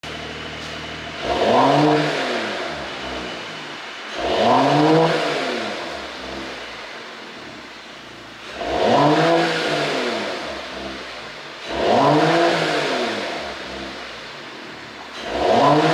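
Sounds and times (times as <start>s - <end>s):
car engine idling and revving: 0.0s - 15.9s
exhaust crackling on overrun: 0.0s - 15.9s.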